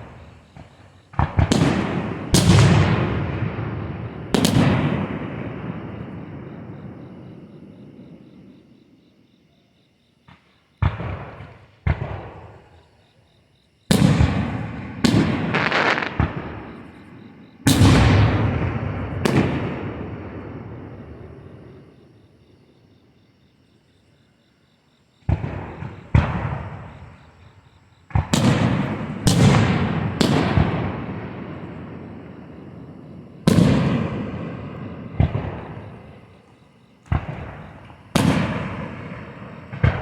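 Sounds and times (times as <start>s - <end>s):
fireworks bangs with rumbling echo: 0.0s - 8.7s, 10.2s - 12.8s, 13.9s - 22.2s, 25.2s - 40.0s
crickets chirping: 0.0s - 40.0s.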